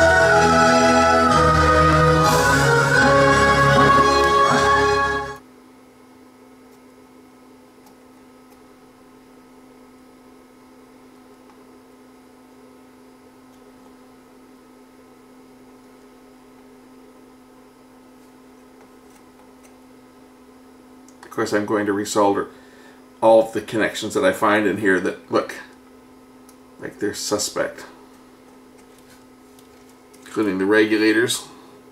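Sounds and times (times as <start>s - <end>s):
faint electrical hum: 0.0s - 31.9s.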